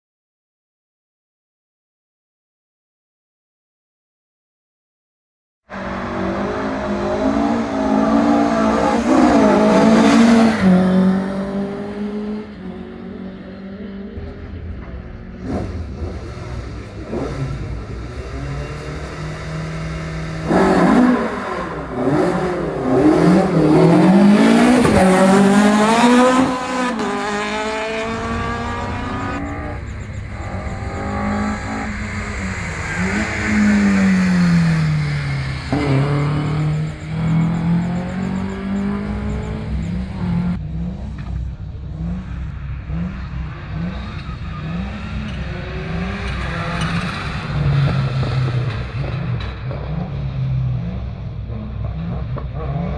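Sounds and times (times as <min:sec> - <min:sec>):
rally car engines revving: 0:05.7 - 0:52.9.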